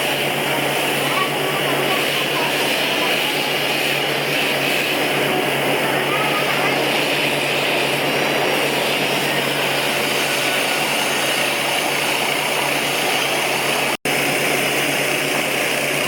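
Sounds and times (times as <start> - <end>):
workshop machine droning: 0.0 - 16.0.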